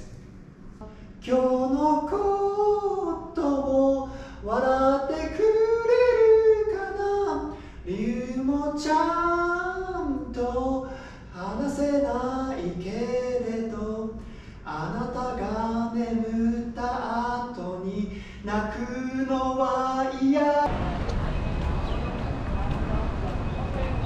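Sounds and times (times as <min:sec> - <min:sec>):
men singing a cappella: 0:01.2 - 0:20.7.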